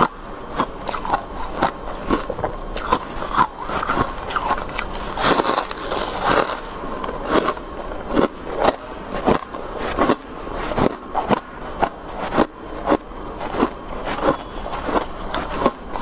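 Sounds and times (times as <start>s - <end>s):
frost crunching being chewed: 0.0s - 16.0s.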